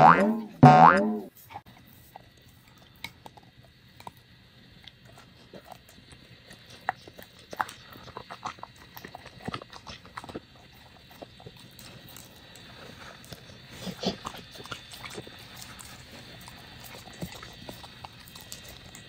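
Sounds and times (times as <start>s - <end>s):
dog licking and smacking: 1.6s - 19.0s.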